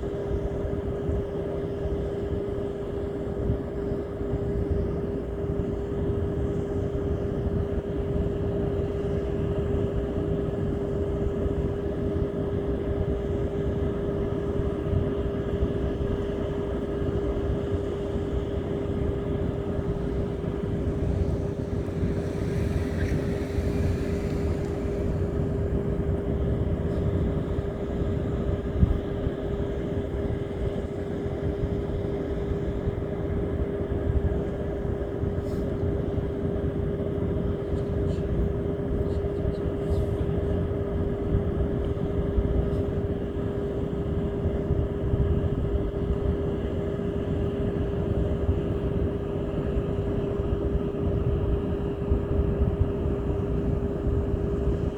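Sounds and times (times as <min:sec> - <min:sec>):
boat engine humming: 0:00.0 - 0:54.9.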